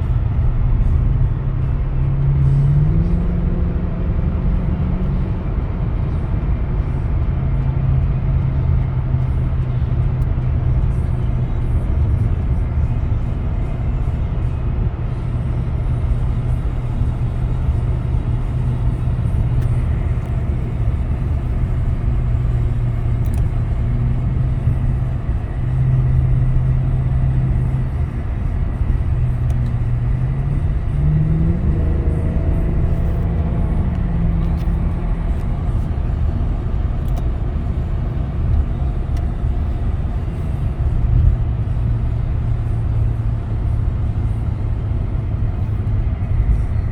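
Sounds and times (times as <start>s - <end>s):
car engine from inside cabin: 0.0s - 46.9s
road and tyre rumble: 0.0s - 46.9s.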